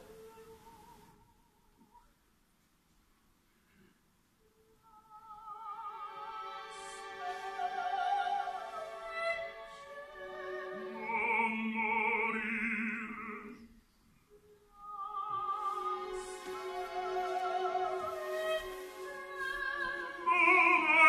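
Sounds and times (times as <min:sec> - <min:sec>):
soprano and baritone operatic duet: 0:00.0 - 0:01.6, 0:04.5 - 0:21.0
soft orchestra: 0:00.0 - 0:02.2, 0:04.4 - 0:21.0.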